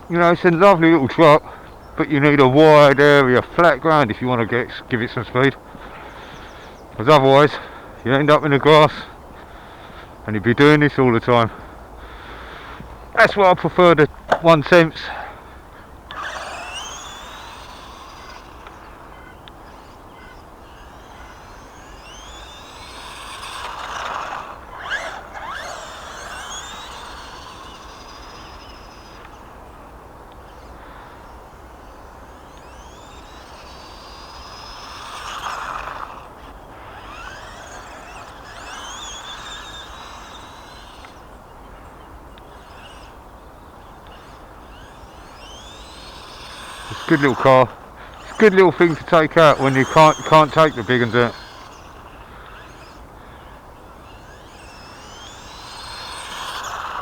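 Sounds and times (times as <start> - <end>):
electric motor whining: 0.0 - 57.0
tyres rushing on rough ground: 0.0 - 57.0.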